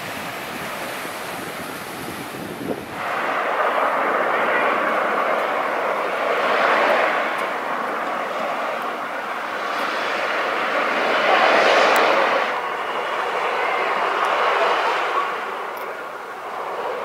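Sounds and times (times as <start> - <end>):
small waves washing up beach: 0.0 - 17.0.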